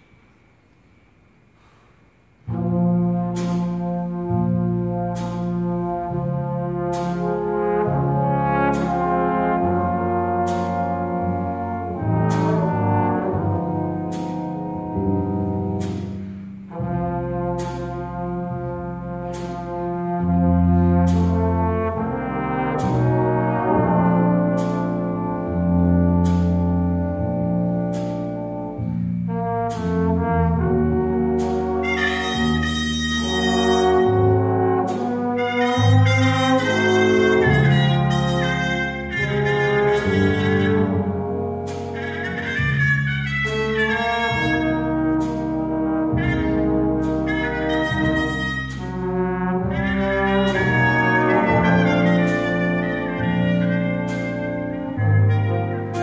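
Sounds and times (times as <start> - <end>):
big band playing slow ballad: 2.5 - 56.0.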